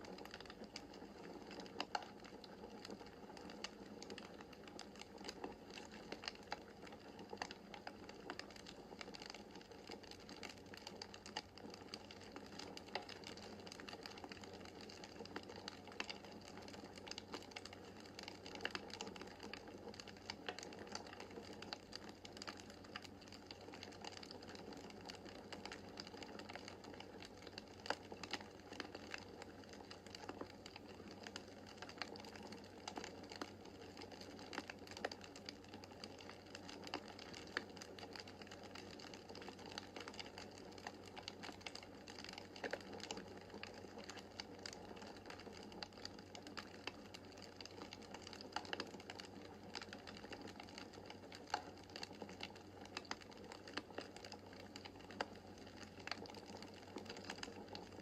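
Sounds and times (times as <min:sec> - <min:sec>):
wood fire crackling in fireplace: 0:00.0 - 0:58.0.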